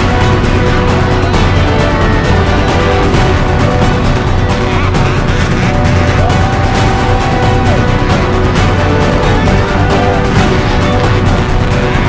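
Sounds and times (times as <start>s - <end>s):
loud music with steady beat: 0.0s - 12.0s.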